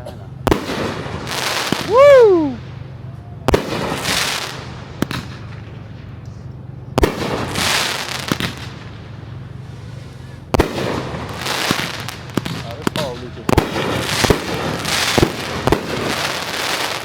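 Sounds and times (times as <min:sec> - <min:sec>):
steady low hum: 0:00.0 - 0:16.6
fireworks bangs: 0:00.3 - 0:17.0.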